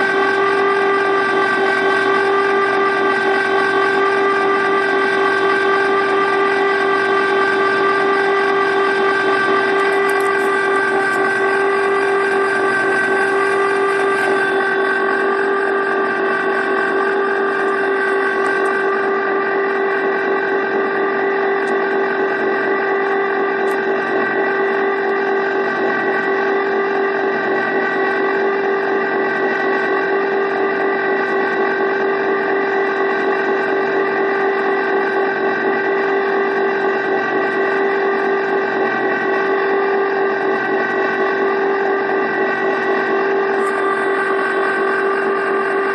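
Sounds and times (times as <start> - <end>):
ice cream maker motor humming: 0.0 - 45.9.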